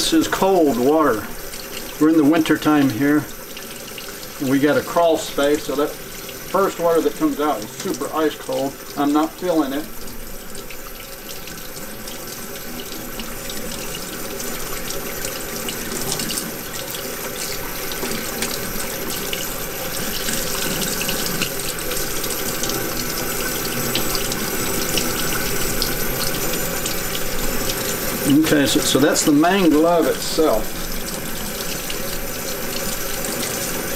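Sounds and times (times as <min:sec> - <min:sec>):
tap water splashing into sink: 0:00.0 - 0:33.9.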